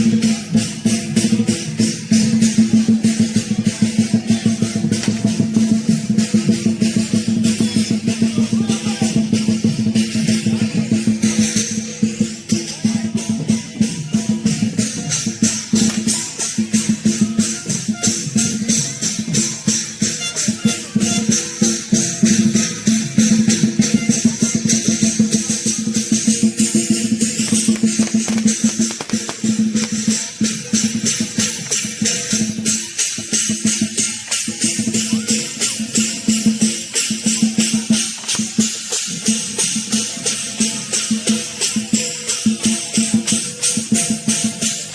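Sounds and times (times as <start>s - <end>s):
cymbals clashing: 0.0s - 44.9s
drum beating: 0.0s - 44.9s.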